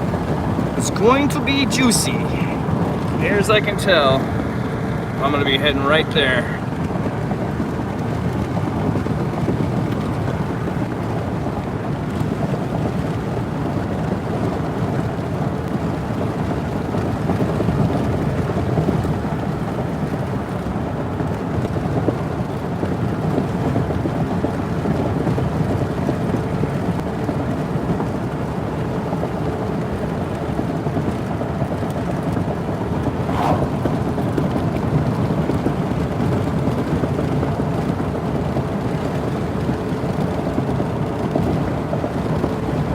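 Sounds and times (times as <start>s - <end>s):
road and engine noise in car cabin: 0.0s - 42.9s.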